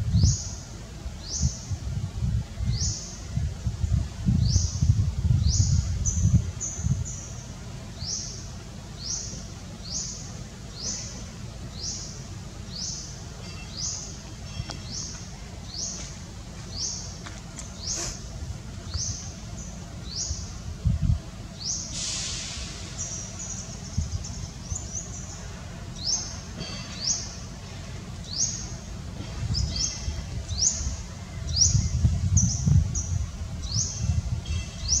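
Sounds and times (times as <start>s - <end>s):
low uneven rumble: 0.0s - 34.9s.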